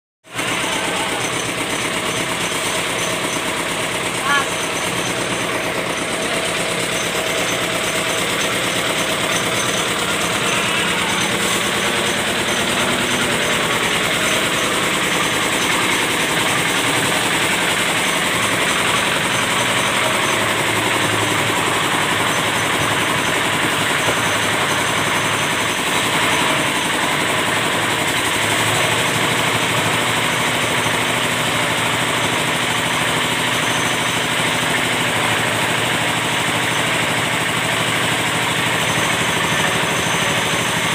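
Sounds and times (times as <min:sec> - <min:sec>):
small engine running steadily: 0:00.2 - 0:40.9.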